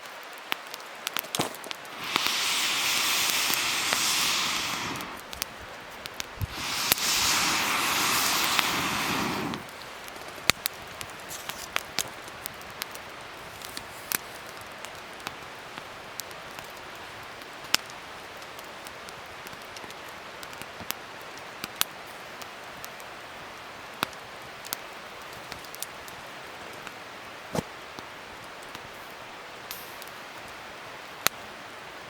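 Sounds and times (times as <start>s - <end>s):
wood fire crackling: 0.0s - 31.5s.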